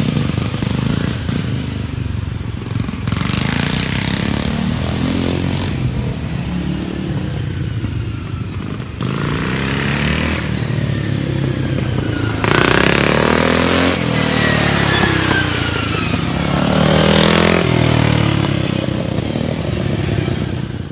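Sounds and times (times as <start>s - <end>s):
lawn mower engines revving: 0.0s - 20.9s.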